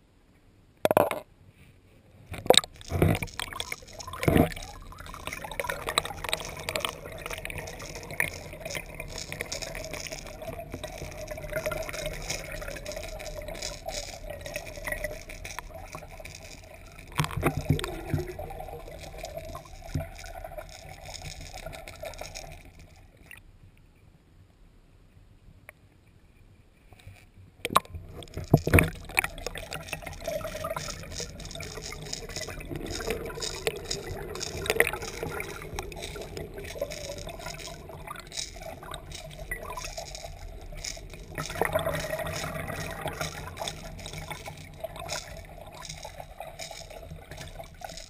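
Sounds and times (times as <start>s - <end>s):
small clicks underwater: 0.8s - 1.3s, 2.3s - 23.9s, 26.9s - 48.0s
underwater watery rush: 2.4s - 23.4s, 27.7s - 48.0s.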